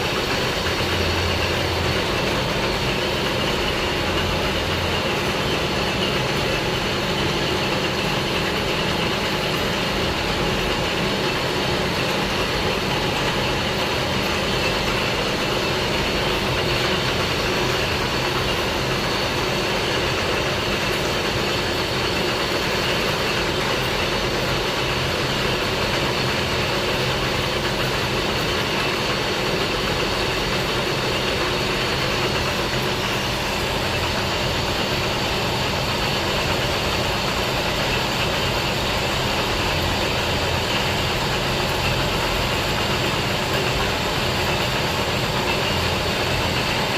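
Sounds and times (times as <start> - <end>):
lathe machine running: 0.0 - 46.9.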